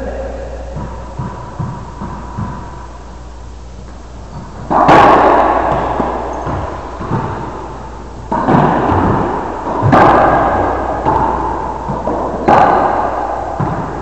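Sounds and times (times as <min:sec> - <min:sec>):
racquet hitting ball with echo: 0:00.0 - 0:14.0.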